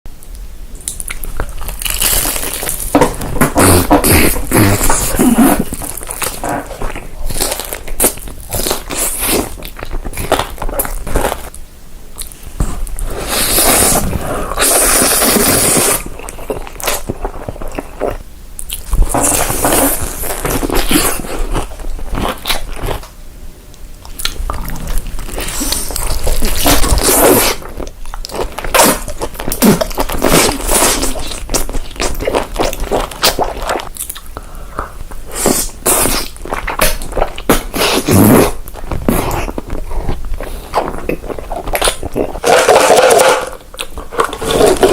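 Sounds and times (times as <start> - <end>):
crunchy chewing: 0.8 - 11.6, 12.2 - 23.2, 24.0 - 44.9.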